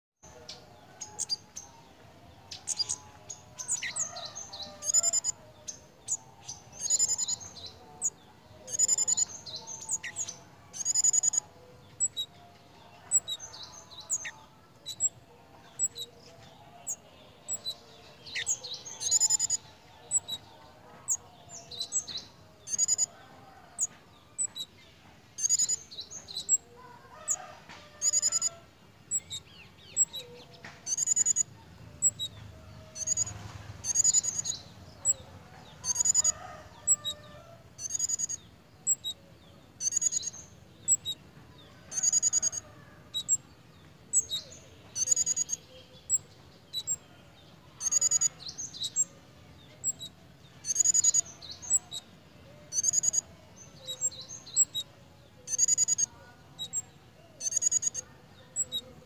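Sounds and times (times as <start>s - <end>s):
songbird chirping: 0.2s - 59.0s.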